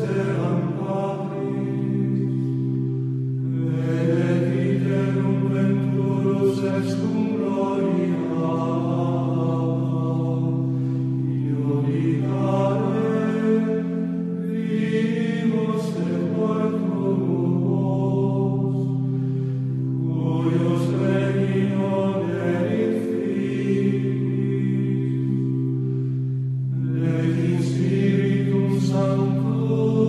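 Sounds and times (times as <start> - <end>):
steady low drone: 0.0 - 30.0
voices chanting long notes: 0.0 - 30.0.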